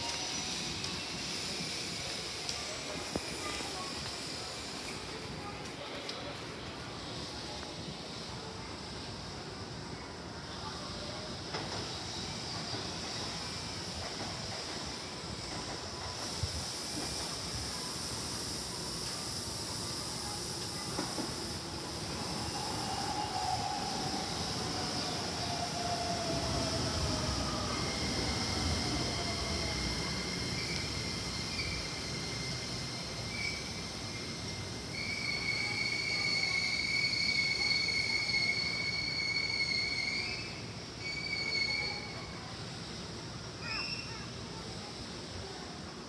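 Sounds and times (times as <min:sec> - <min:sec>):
train wheels squealing: 0:00.0 - 0:05.2, 0:10.5 - 0:42.8, 0:43.6 - 0:44.7
rumble of train cars: 0:00.0 - 0:46.0.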